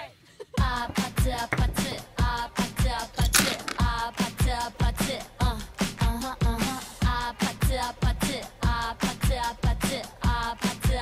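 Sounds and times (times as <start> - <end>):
person singing: 0.6 - 11.0
pop music: 0.6 - 11.0.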